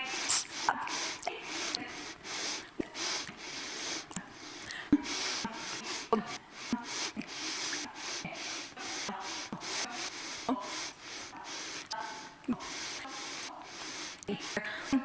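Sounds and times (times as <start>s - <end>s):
clipped vocal sounds: 0.0s - 15.0s
person sniffling: 0.0s - 15.0s.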